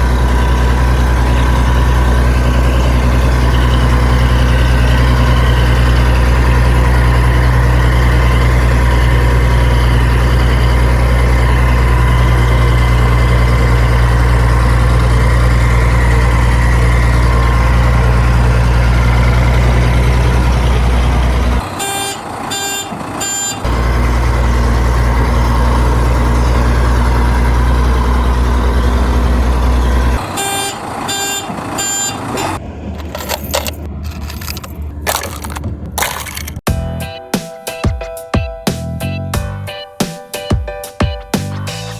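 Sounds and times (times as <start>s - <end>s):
diesel truck engine running: 0.0s - 37.3s.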